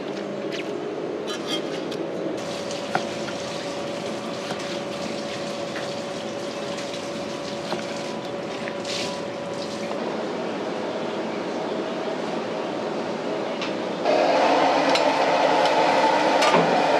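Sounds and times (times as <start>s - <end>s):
rushing kitchen background noise: 0.0s - 16.9s
steady hum: 0.0s - 16.9s.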